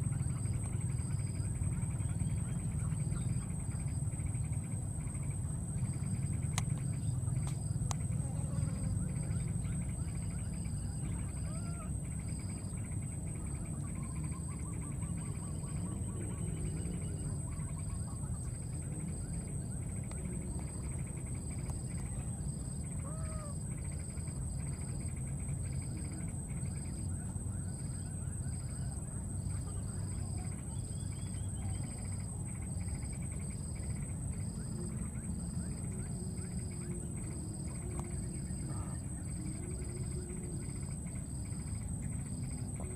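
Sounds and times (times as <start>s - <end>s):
insect continuous high buzz: 0.0s - 42.9s
insect pulsing: 0.0s - 42.9s
low outdoor rumble: 0.0s - 42.9s.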